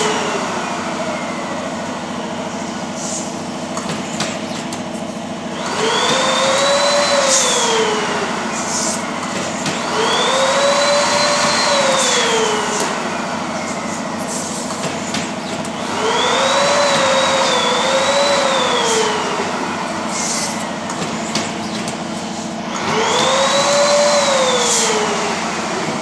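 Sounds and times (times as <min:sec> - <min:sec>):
motor whine: 0:00.0 - 0:26.0.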